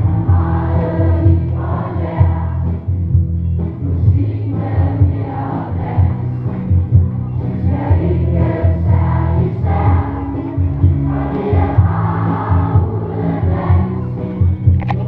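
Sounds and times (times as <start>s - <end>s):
crowd singing together: 0.0s - 3.2s, 3.8s - 14.6s
amplified music with bass beat: 0.0s - 15.0s.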